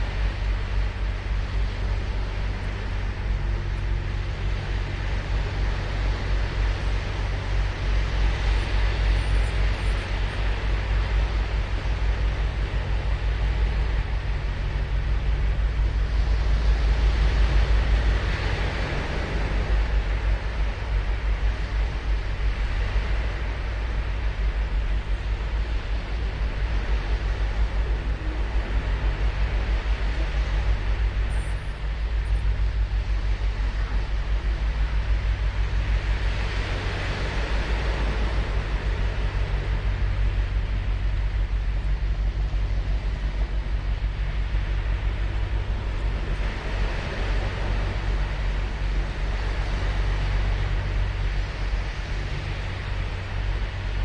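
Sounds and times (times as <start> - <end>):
ocean surf on beach: 0.0 - 54.0.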